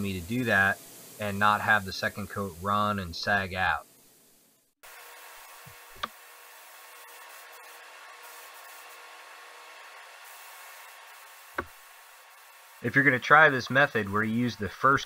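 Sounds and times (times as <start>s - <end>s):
hiss of moving air: 0.0s - 3.8s, 5.0s - 15.0s.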